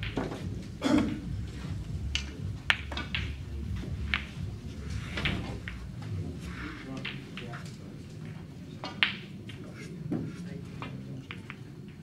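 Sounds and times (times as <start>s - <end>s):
low steady hum: 0.0s - 12.0s
snooker balls clicking: 0.0s - 12.0s.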